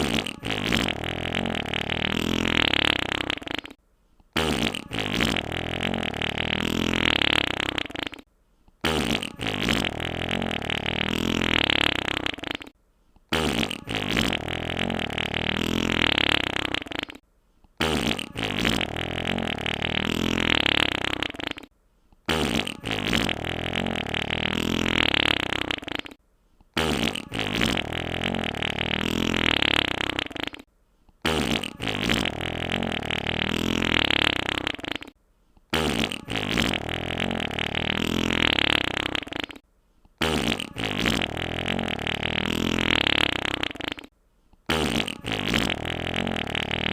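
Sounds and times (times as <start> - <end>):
wet fluttering fart: 0.0 - 3.8, 4.4 - 17.2, 17.8 - 21.7, 22.3 - 26.2, 26.8 - 39.6, 40.2 - 44.1, 44.7 - 46.9.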